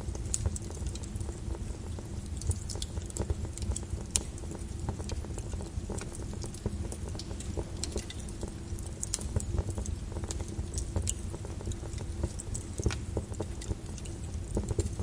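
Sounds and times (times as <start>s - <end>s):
lava crackling and popping: 0.0s - 15.0s.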